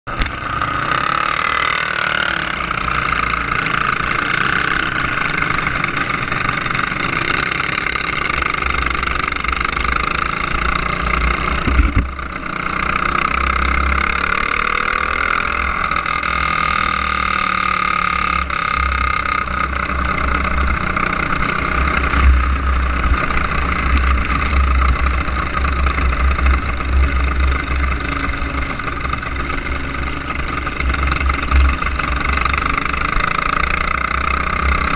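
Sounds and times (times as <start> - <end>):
go-kart engine buzzing: 0.1 - 34.9.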